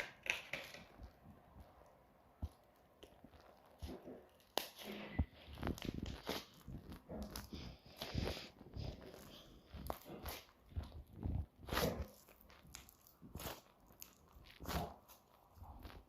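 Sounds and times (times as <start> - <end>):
crunching and rustling handling noises: 2.4 - 16.0.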